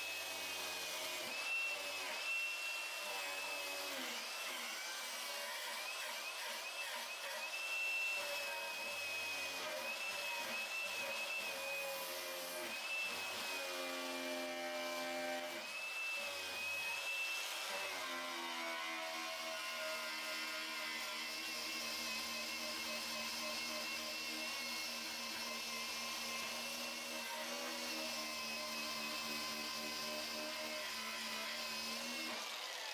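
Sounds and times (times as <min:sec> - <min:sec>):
power grinder whining on metal: 0:00.0 - 0:32.9.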